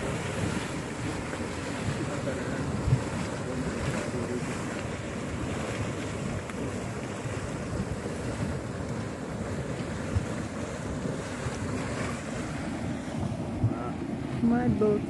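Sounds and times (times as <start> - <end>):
hot spring bubbling and rumbling: 0.0 - 15.0
wind on microphone: 0.0 - 15.0.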